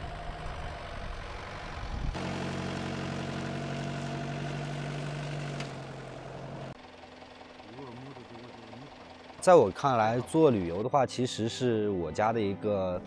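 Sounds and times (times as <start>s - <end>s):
pickup truck engine rumbling: 0.0s - 10.8s.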